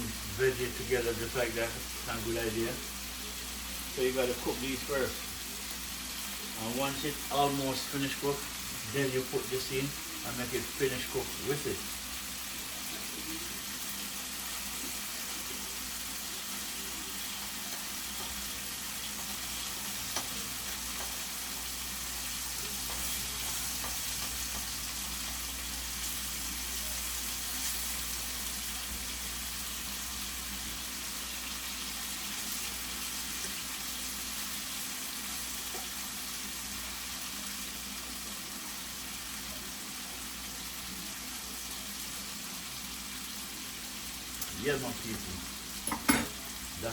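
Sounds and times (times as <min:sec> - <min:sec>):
chicken sizzling in a pan: 0:00.0 - 0:46.9.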